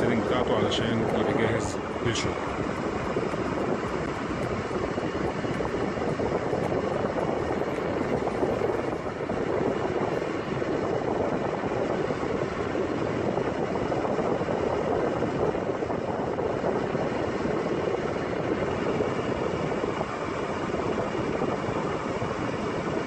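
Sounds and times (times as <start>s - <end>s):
car blower fan rushing air: 0.0s - 23.0s.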